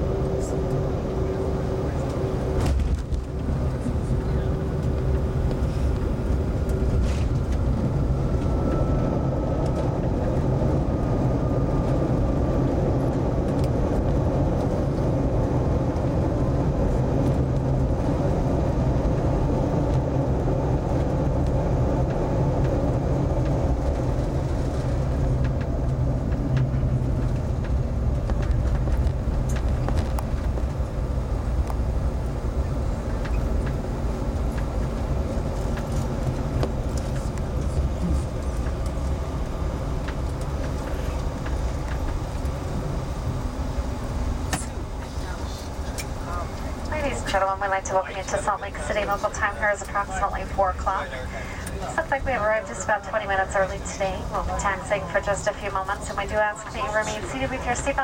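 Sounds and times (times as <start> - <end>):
engine and airflow rumble: 0.0 - 58.0.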